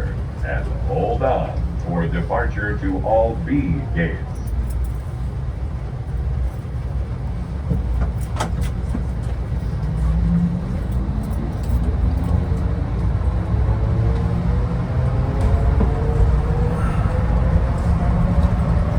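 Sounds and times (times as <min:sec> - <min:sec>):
train rumble: 0:00.0 - 0:18.9.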